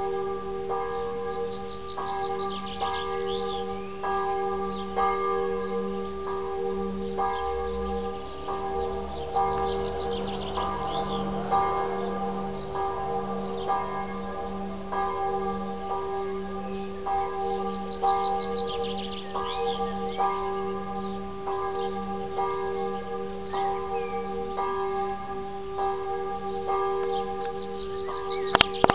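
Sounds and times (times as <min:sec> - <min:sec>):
church bells ringing: 0:00.0 - 0:28.9.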